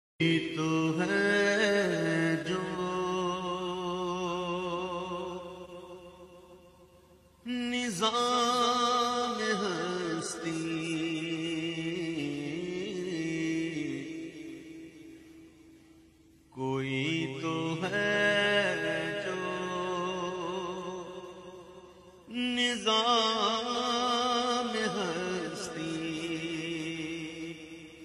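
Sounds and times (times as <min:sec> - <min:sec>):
man singing devotional chant: 0:00.2 - 0:06.6, 0:07.4 - 0:15.2, 0:16.5 - 0:28.0.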